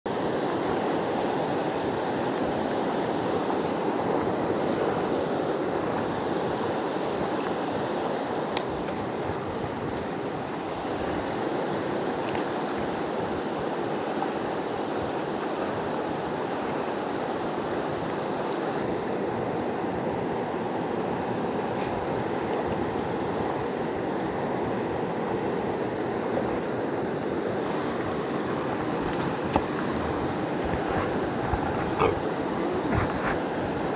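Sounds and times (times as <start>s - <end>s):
river rushing over shallows: 0.1s - 33.9s.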